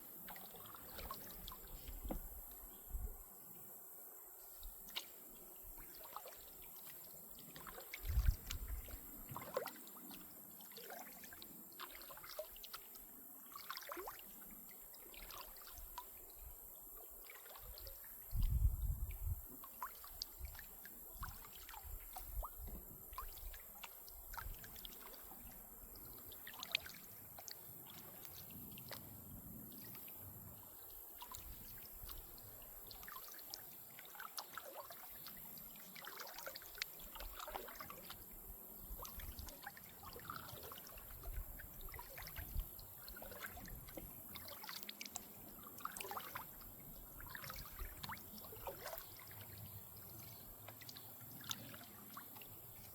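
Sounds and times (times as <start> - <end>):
water trickling and dripping: 0.1 - 3.2, 4.6 - 52.9.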